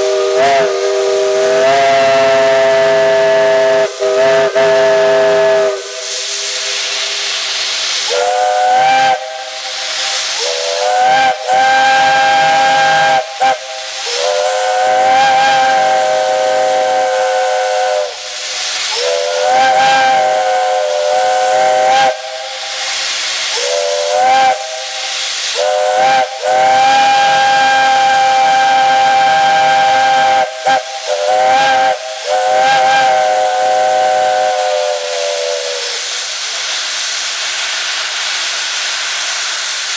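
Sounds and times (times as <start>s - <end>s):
steam hissing: 0.0s - 39.9s
steam locomotive whistle blasts: 0.0s - 39.9s.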